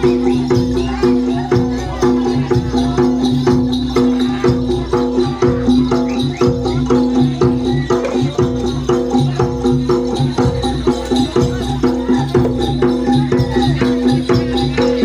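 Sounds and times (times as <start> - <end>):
jingling hand percussion: 0.0 - 15.0
percussion ensemble playing: 0.0 - 15.0.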